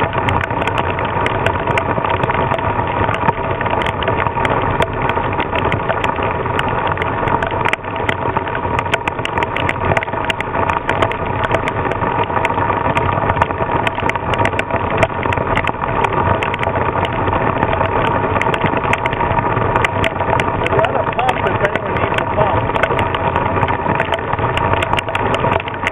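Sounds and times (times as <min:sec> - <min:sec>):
raindrops striking: 0:00.0 - 0:25.9
wind rumbling on microphone: 0:00.0 - 0:25.9.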